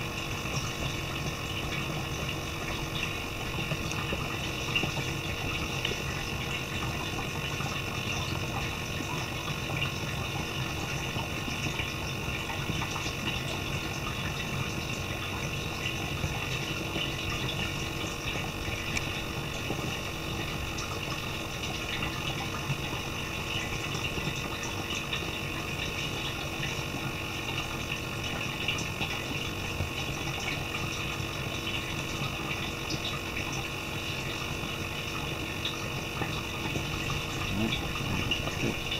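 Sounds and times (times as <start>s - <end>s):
faint steady hum: 0.0s - 38.9s
running water rushing: 0.0s - 38.9s.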